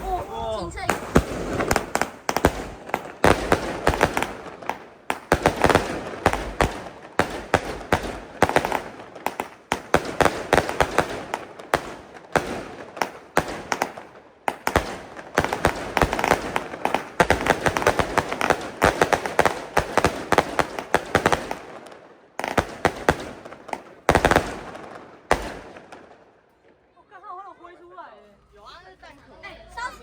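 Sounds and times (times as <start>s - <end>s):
fireworks crackling pops: 0.0s - 26.8s.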